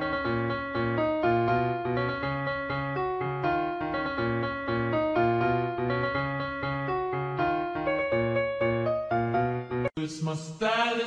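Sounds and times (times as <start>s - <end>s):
piano music: 0.0s - 9.9s.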